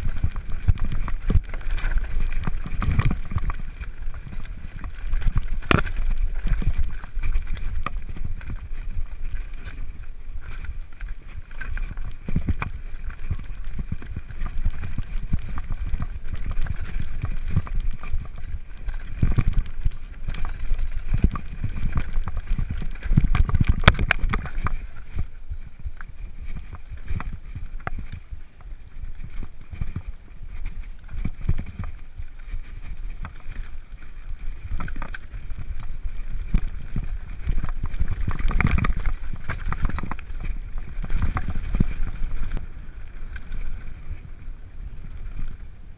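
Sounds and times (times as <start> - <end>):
bike rattling over stones: 0.0 - 45.9
wind and tyres rumbling: 0.0 - 45.9.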